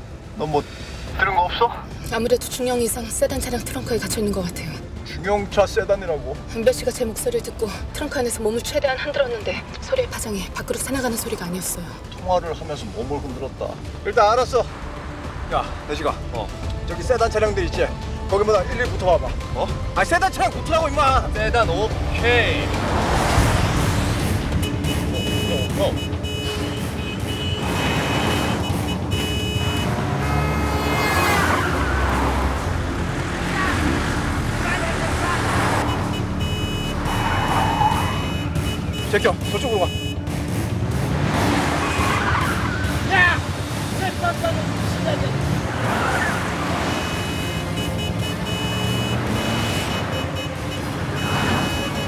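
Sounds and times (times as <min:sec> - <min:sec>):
dramatic music score: 0:00.0 - 0:29.2, 0:29.8 - 0:52.0
car engines running: 0:00.0 - 0:52.0.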